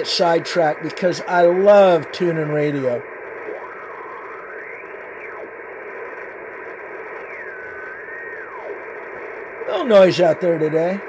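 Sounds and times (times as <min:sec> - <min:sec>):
radio band hiss: 0:00.0 - 0:11.0
radio whistles sliding in pitch: 0:00.8 - 0:11.0.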